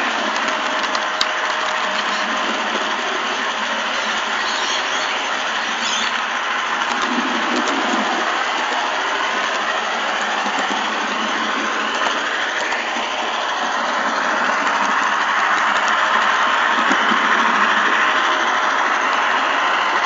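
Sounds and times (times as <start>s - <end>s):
model train motor whirring: 0.0s - 20.0s.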